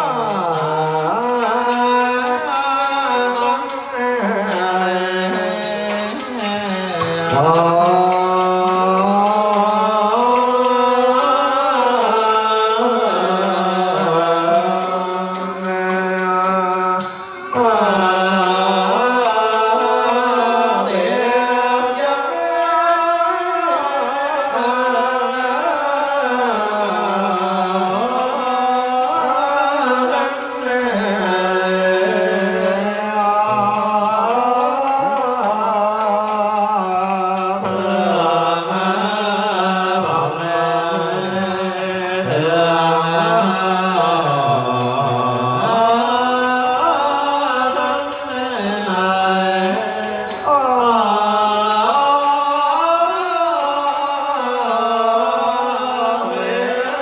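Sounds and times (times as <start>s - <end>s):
man chanting: 0.0s - 57.0s.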